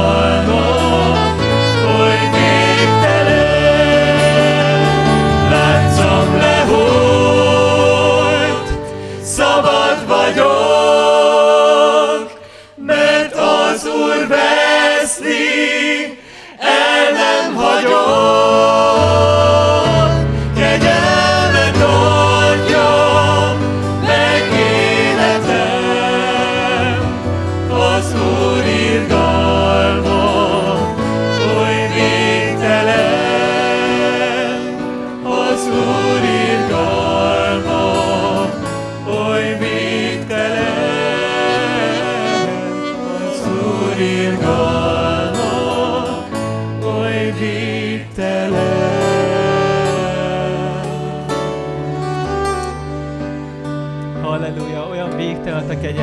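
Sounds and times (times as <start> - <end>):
guitar: 0.0 - 11.0, 16.6 - 56.0
bass: 0.0 - 12.1, 18.1 - 56.0
voices singing together: 0.0 - 52.5.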